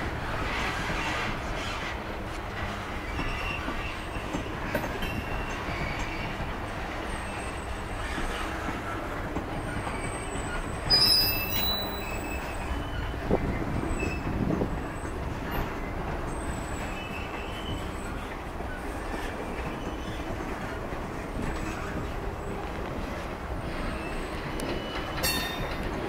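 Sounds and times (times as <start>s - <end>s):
train cars rumbling past: 0.0s - 26.0s
train wheels squealing: 2.6s - 26.0s.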